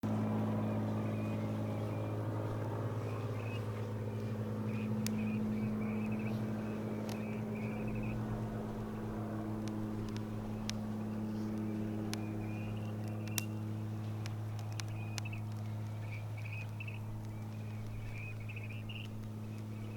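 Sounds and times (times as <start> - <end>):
low hum: 0.0 - 19.9
campfire crackling: 0.2 - 19.9.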